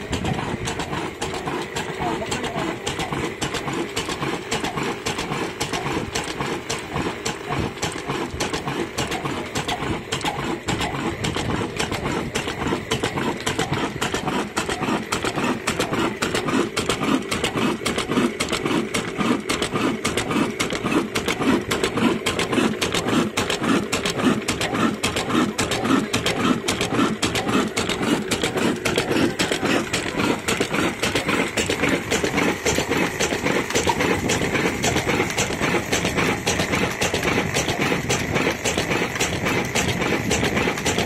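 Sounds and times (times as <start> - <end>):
diesel engine running slowly: 0.0 - 41.0
engine valve gear ticking: 0.0 - 41.0.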